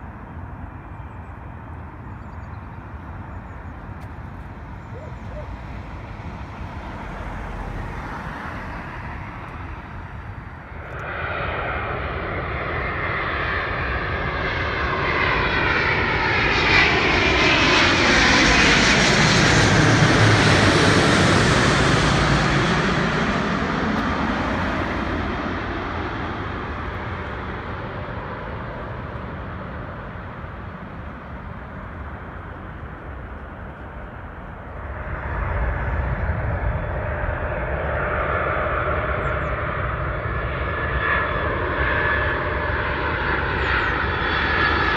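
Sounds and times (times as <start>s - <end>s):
airliner flying past: 0.0s - 44.9s.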